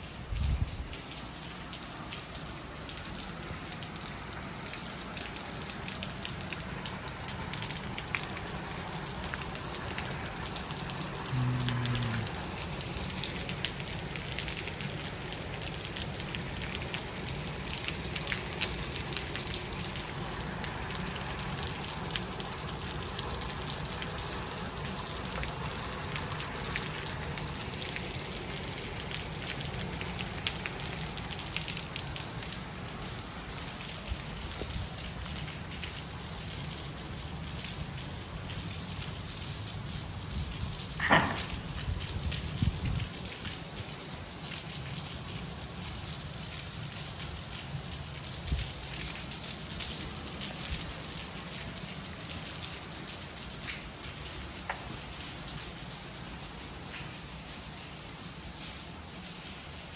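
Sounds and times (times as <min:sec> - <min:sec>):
rain falling: 0:00.0 - 0:59.9
raindrops striking surfaces: 0:00.0 - 0:59.9.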